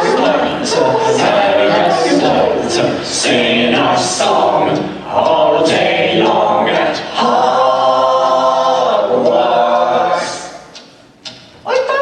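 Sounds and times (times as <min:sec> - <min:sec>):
voices singing a cappella: 0:00.0 - 0:10.9.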